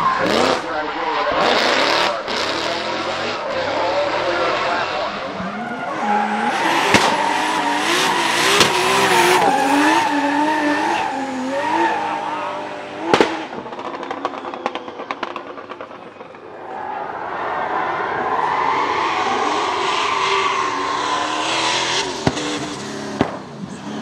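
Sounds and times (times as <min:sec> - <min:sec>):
car engine revving: 0:00.0 - 0:16.5, 0:17.2 - 0:24.0.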